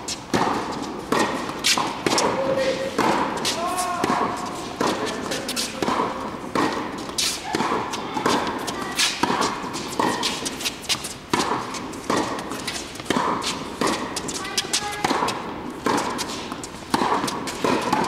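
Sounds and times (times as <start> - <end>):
tennis ball hitting racket strings: 0.0 - 18.0
footfalls on hard court: 0.1 - 18.0
ball bouncing on hard court: 0.3 - 18.0.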